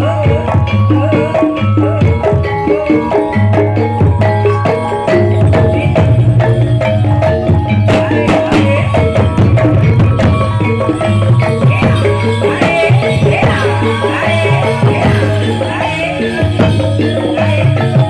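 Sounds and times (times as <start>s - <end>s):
hand drums: 0.0s - 18.0s
ringing metallophones: 0.0s - 18.0s
wavering melodic line: 0.0s - 18.0s.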